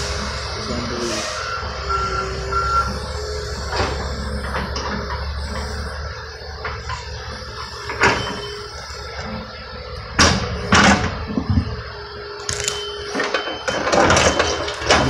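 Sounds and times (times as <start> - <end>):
construction engine rumble: 0.0 - 15.0.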